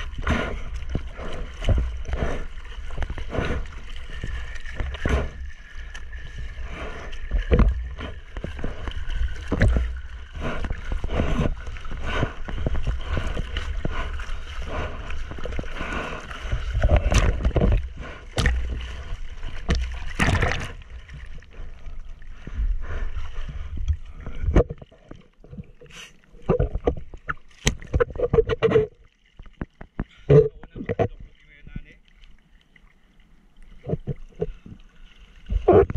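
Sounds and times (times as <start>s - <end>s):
water splashing against surfboard: 0.0s - 33.0s.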